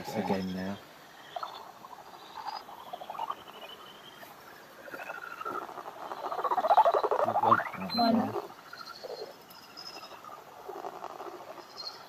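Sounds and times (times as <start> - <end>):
animal chirping and squeaking: 0.0 - 4.2, 4.8 - 12.0.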